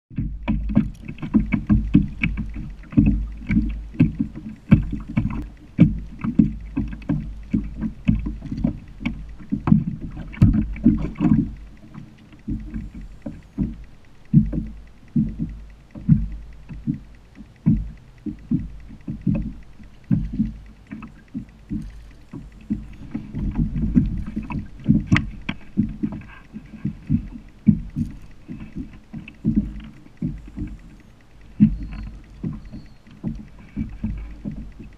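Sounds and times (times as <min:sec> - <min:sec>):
water sloshing against hull: 0:00.1 - 0:34.9.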